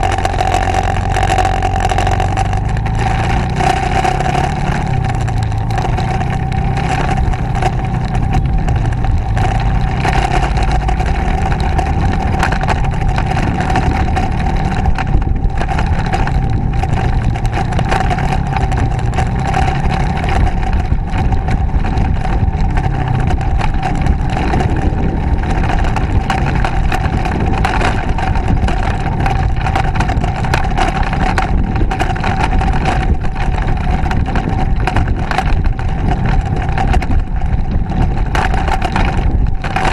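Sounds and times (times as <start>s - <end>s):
motorcycle engine running: 0.0s - 39.9s
rushing wind noise: 0.0s - 39.9s
steady whine: 0.0s - 39.9s.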